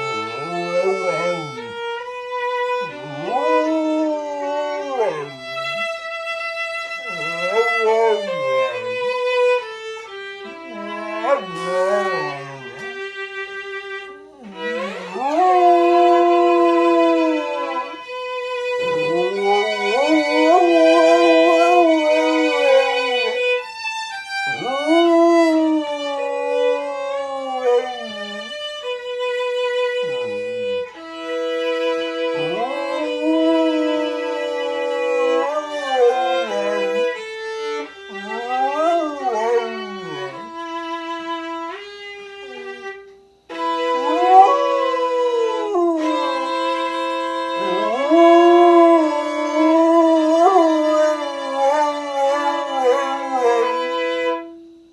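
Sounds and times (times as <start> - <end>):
dog howling: 0.0 - 12.9, 14.2 - 40.9, 42.5 - 54.6
violin long notes: 0.0 - 54.7.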